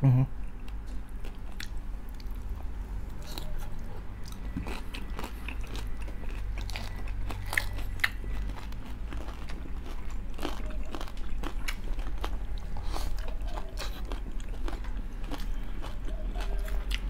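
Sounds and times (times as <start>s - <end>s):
chewing crispy food: 0.4s - 17.0s.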